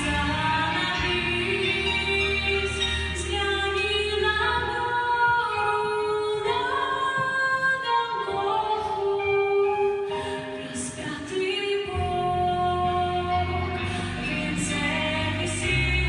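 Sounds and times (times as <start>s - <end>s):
women singing in harmony: 0.0s - 10.1s, 10.7s - 16.0s.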